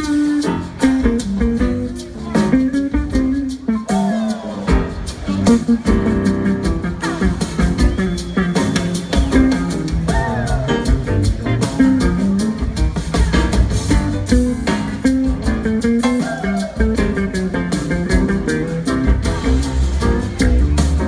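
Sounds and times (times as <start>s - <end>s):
bass guitar: 0.0s - 21.0s
drum kit: 0.0s - 21.0s.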